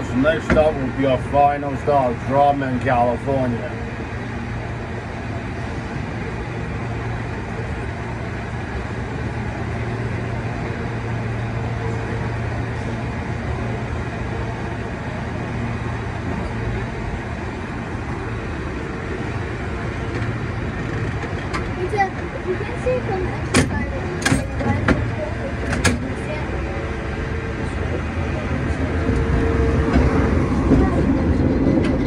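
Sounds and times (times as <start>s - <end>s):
city traffic noise: 0.0s - 32.0s.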